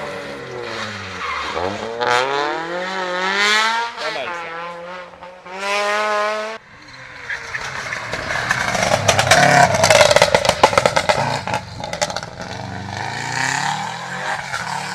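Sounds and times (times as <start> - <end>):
rally car passing at speed: 0.0 - 14.9.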